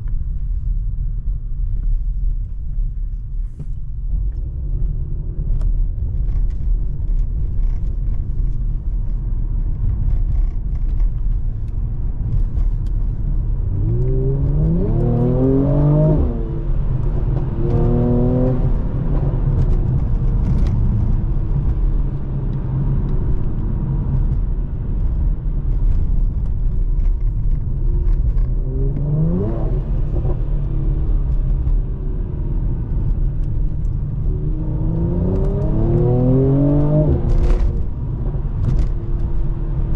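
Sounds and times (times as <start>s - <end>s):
road noise: 0.0s - 39.9s
car engine accelerating: 4.7s - 39.9s.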